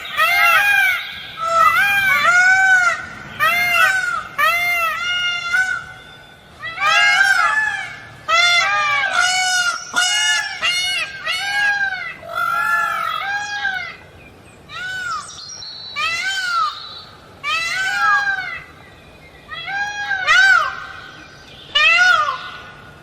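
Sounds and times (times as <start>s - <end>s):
peafowl honk-like calls: 0.0s - 23.0s.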